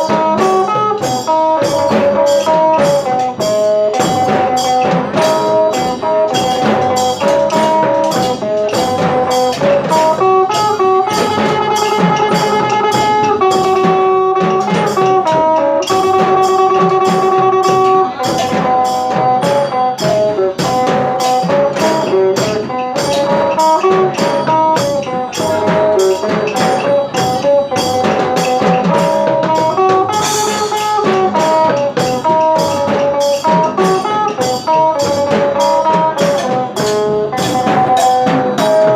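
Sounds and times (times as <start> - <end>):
drum and percussion beat: 0.0 - 38.9.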